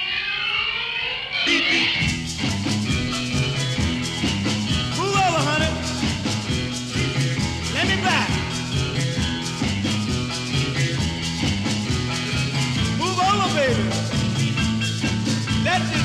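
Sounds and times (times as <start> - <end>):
upbeat rock and roll music: 1.3 - 16.0
sliding instrumental notes: 1.5 - 16.0.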